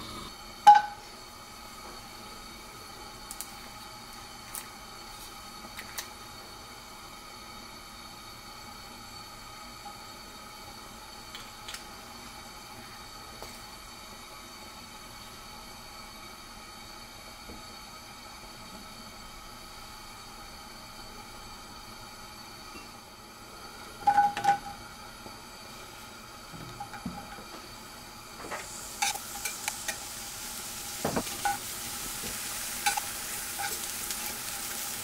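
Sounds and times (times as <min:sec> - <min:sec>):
faint mechanical hum: 0:00.0 - 0:35.0.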